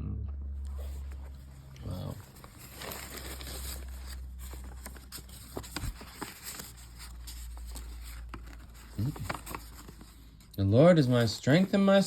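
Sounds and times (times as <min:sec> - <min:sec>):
paper cards rustling: 0:00.6 - 0:12.0.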